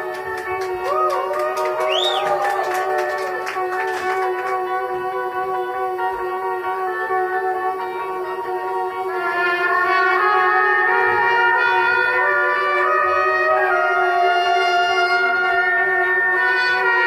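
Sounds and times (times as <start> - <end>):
live band held notes: 0.0 - 17.0
steady drone: 0.0 - 17.0.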